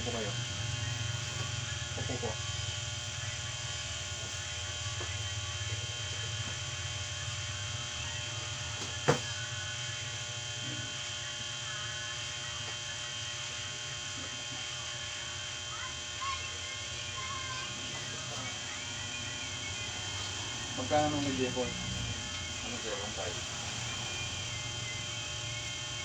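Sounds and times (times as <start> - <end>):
steady electrical buzz: 0.0 - 26.0.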